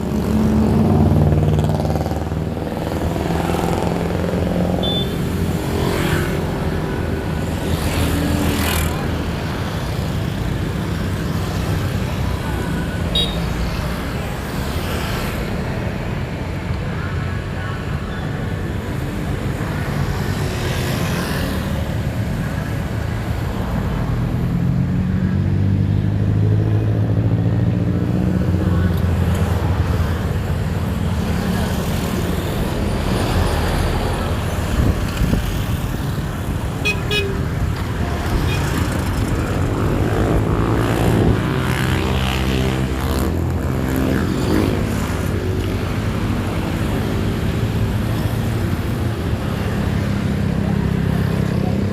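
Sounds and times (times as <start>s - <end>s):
cars and motorbikes passing: 0.0s - 51.9s
steady traffic rumble: 0.0s - 51.9s.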